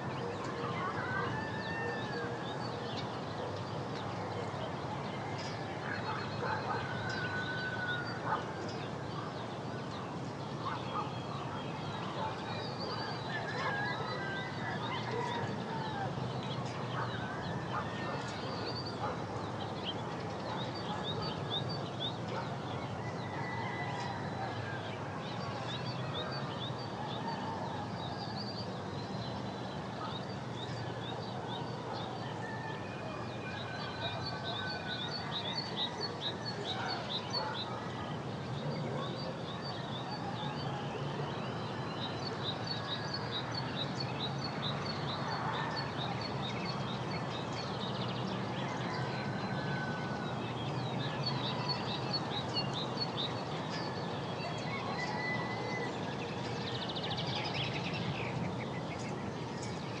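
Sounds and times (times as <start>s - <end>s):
birds chirping and singing: 0.0s - 38.3s, 42.3s - 60.0s.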